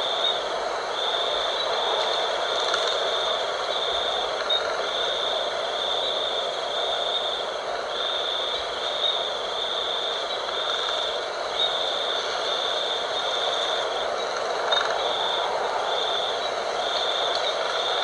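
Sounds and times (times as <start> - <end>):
night wind: 0.0 - 18.0.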